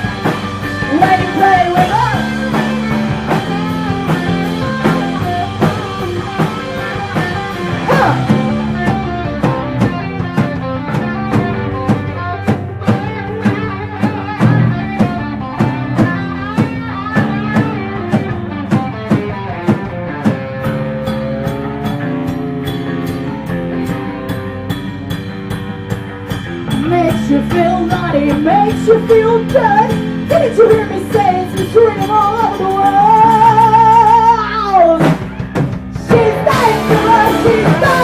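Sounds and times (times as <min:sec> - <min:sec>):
drum kit beat: 0:00.0 - 0:38.0
electric guitar: 0:00.0 - 0:38.0.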